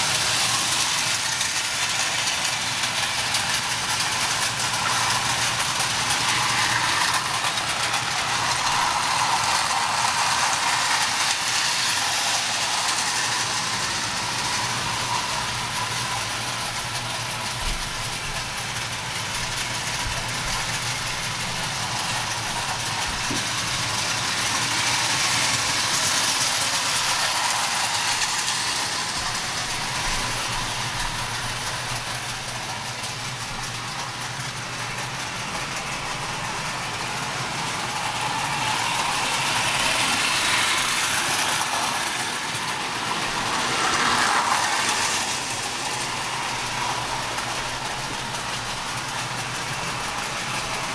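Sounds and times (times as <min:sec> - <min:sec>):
toy train motors whirring: 0:00.0 - 0:50.9.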